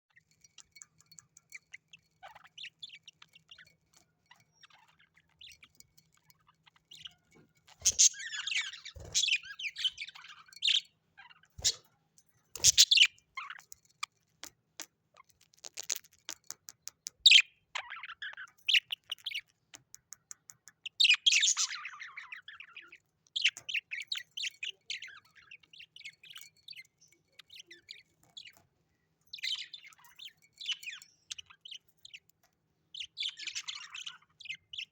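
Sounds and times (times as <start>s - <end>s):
small parrots chirping and squawking: 0.1s - 11.9s, 12.5s - 19.9s, 20.6s - 34.9s.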